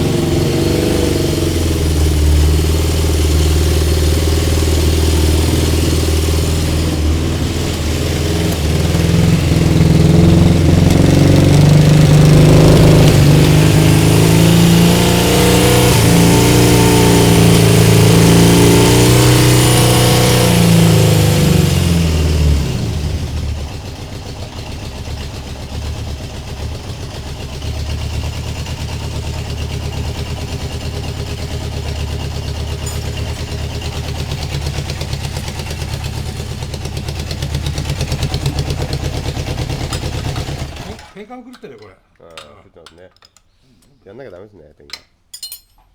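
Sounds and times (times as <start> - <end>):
motorcycle engine revving and idling: 0.0 - 41.2.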